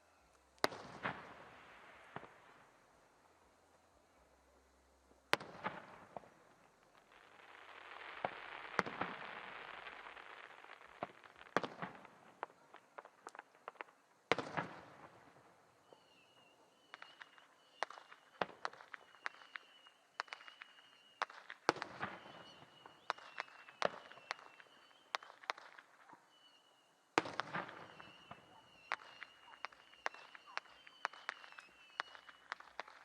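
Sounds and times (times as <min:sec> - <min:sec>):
fireworks bangs and pops: 0:00.6 - 0:02.9, 0:05.3 - 0:26.6, 0:27.2 - 0:33.0.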